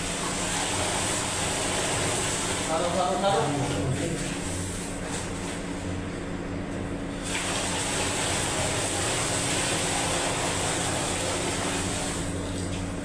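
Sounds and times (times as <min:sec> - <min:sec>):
water gushing into a tank: 0:00.0 - 0:06.0, 0:07.0 - 0:13.0.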